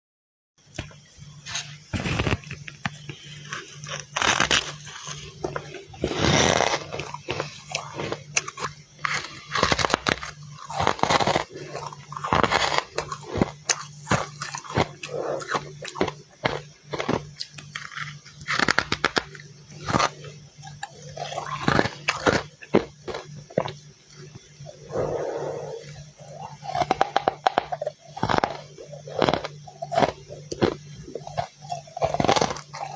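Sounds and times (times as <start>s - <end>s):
steady low hum: 0.6s - 32.9s
frost being bitten and chewed: 1.5s - 24.4s, 25.8s - 32.9s.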